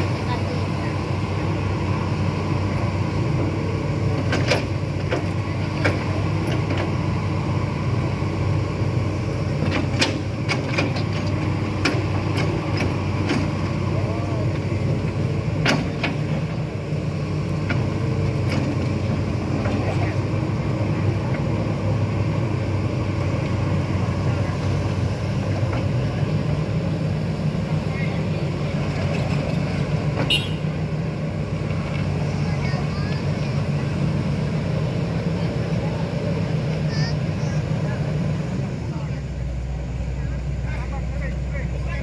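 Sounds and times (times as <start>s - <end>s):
excavator diesel engine running: 0.0s - 42.0s
faint voices: 0.0s - 42.0s.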